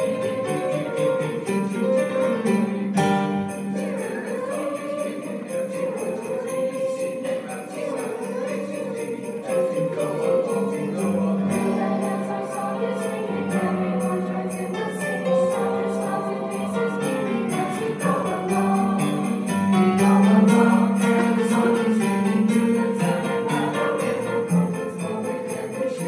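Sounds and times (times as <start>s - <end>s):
mixed choir singing: 0.0s - 26.0s
sleigh bells jingling: 0.0s - 26.0s.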